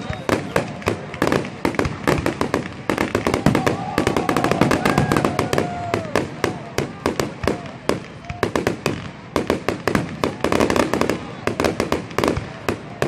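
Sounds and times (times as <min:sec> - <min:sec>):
fireworks cracks and bangs: 0:00.0 - 0:13.0.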